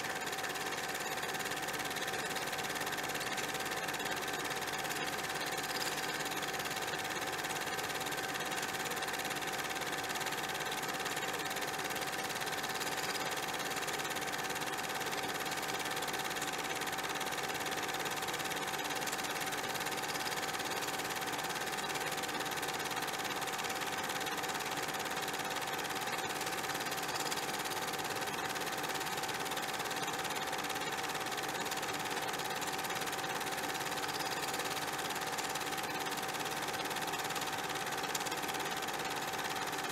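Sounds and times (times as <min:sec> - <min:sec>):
mechanical running noise: 0:00.0 - 0:39.9.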